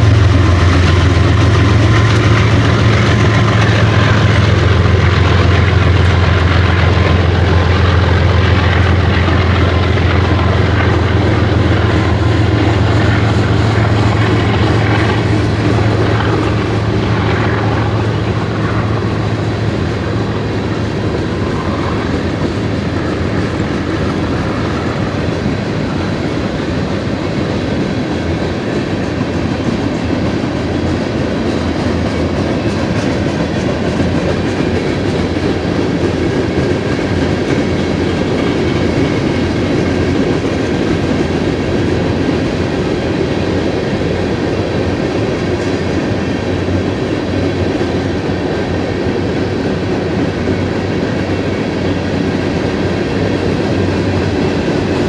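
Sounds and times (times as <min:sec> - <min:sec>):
diesel locomotive rumble: 0:00.0 - 0:55.0
steel wheels on rails: 0:00.0 - 0:55.0.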